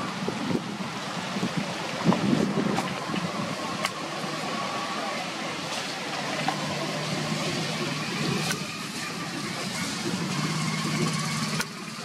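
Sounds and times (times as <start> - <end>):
outdoor background noise: 0.0 - 12.0
vehicle engine humming: 0.0 - 12.0.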